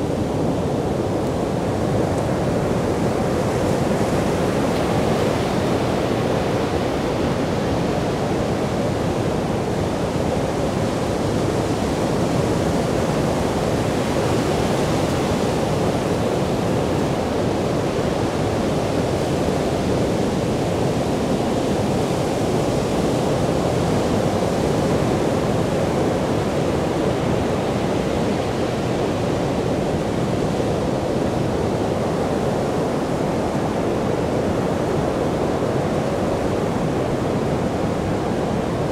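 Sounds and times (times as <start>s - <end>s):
waves breaking on a sandy beach: 0.0s - 38.9s.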